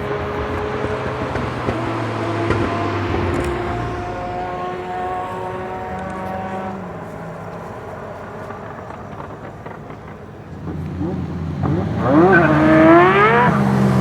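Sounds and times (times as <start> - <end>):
sports car engine revving: 0.0 - 14.0.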